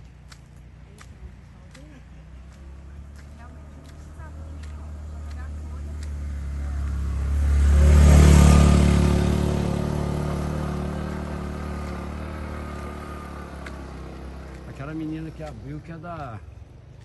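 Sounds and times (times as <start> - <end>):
motorcycle passing by: 0.0 - 17.0.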